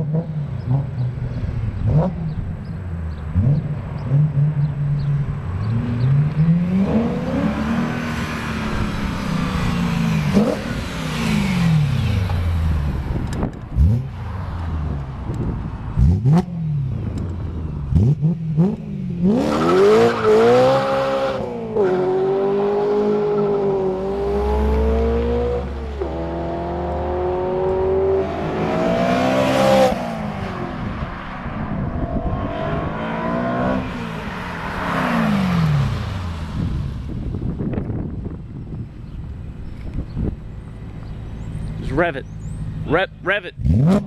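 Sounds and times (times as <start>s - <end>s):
car engine revving: 0.0s - 38.4s, 40.0s - 44.0s.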